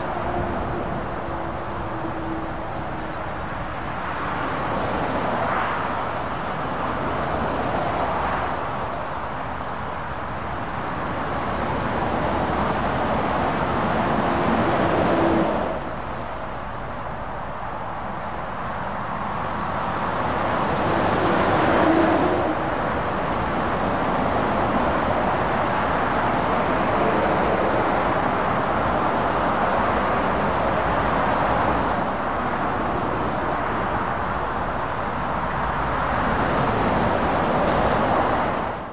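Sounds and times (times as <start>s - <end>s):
road traffic passing: 0.0s - 38.9s.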